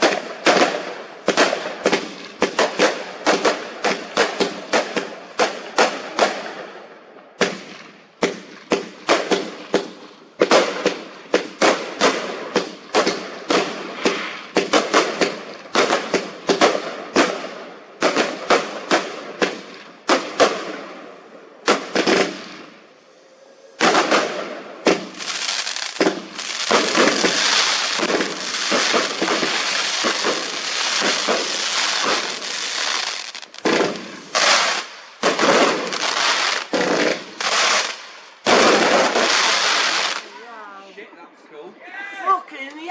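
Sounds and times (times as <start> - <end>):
fireworks bangs: 0.0 - 6.8, 7.4 - 23.0, 23.6 - 40.4
fireworks crackling: 0.0 - 6.8, 7.4 - 21.0, 21.6 - 40.5.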